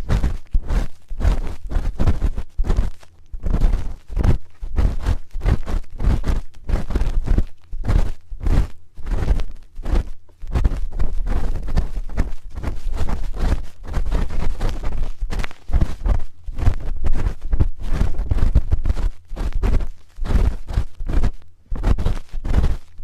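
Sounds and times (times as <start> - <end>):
spoon scraping a microphone: 0.0 - 23.0.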